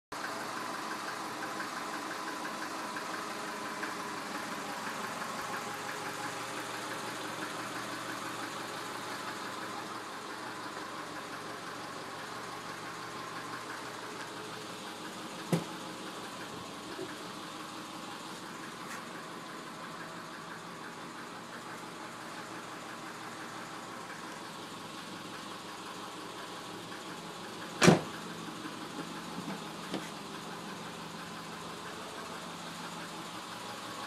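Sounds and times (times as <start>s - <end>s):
car engine knocking: 0.2s - 34.0s.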